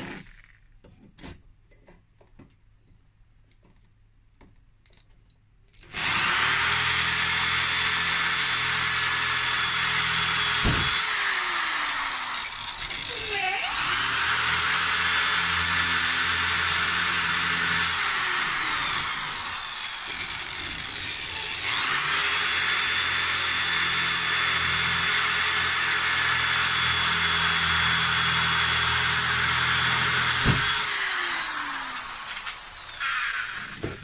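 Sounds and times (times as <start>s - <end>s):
electric drill boring metal: 5.8s - 34.0s.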